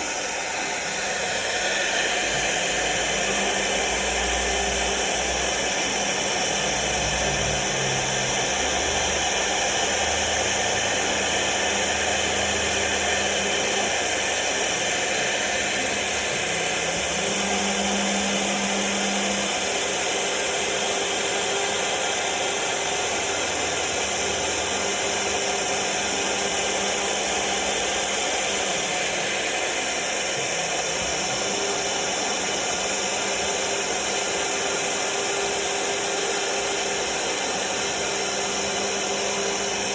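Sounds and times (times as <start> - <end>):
motors humming: 0.0 - 39.9
router spindle cutting hiss: 0.0 - 39.9.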